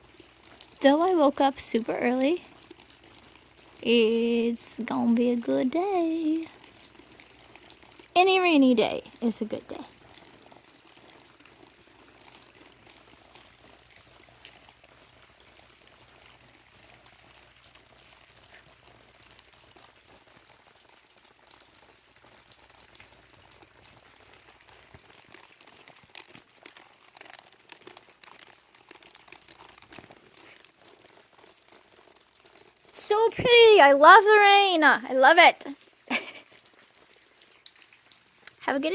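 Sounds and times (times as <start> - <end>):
drips ticking: 0.0 - 38.9
rain hiss: 0.0 - 38.9.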